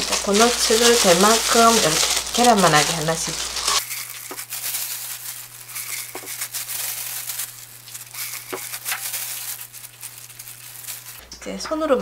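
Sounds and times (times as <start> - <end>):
plastic gloves crinkling: 0.0 - 11.3.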